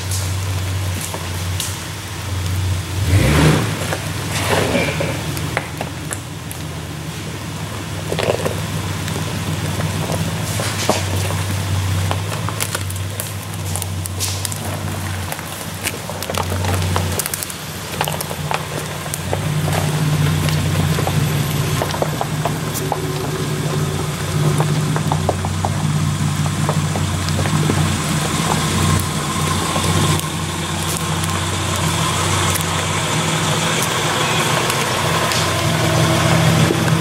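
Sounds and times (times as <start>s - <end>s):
engines droning at low revs: 0.0s - 37.0s.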